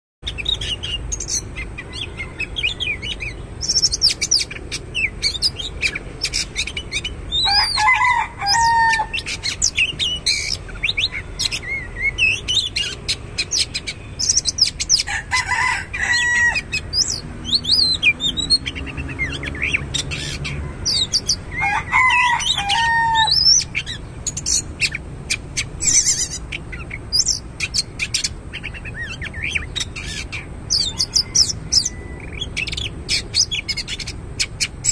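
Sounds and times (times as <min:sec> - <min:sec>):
bird singing whistles and chirps: 0:00.2 - 0:15.0, 0:16.8 - 0:21.6, 0:22.2 - 0:34.9.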